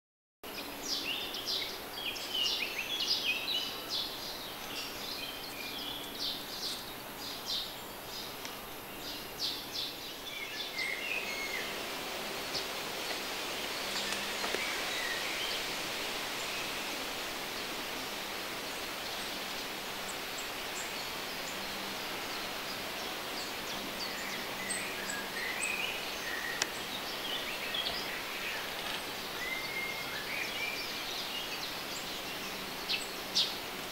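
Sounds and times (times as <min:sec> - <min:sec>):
small birds chirping: 0:00.5 - 0:33.9
steady rushing background noise: 0:00.6 - 0:33.9.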